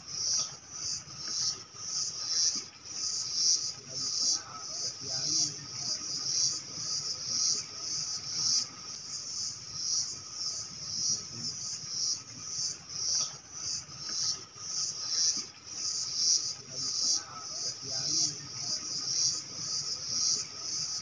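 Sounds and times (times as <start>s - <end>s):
faint steady hum: 0.0s - 21.0s
insects calling in chorus: 0.0s - 21.0s.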